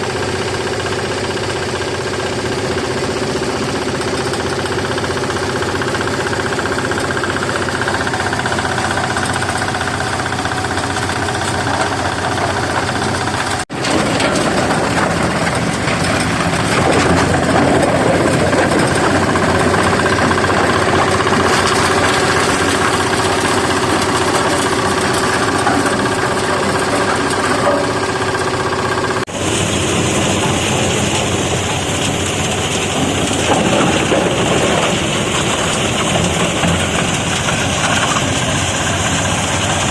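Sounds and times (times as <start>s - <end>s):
sorting machine running: 0.0s - 39.9s.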